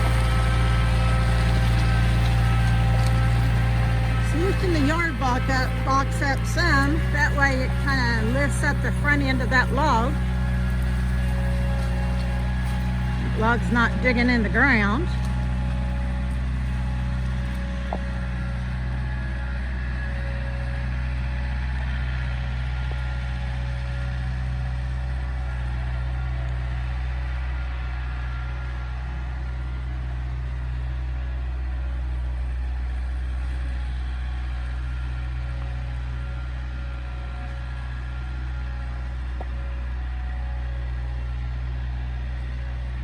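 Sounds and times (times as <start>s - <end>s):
machine engine running steadily: 0.0s - 43.0s.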